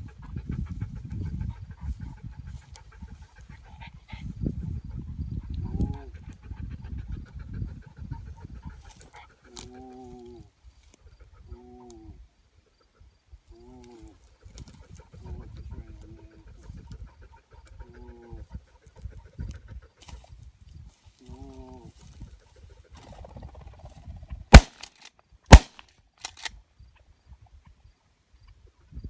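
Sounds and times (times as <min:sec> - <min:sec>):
wind rumble on microphone: 0:00.0 - 0:12.3, 0:14.4 - 0:24.5, 0:26.5 - 0:29.0.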